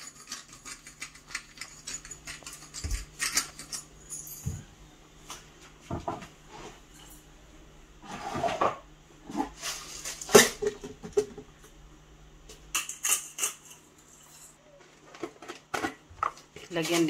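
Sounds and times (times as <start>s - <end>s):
kitchen rustles and clicks: 0.0s - 7.4s, 8.0s - 11.8s, 12.4s - 17.0s
steady low hum: 0.0s - 17.0s.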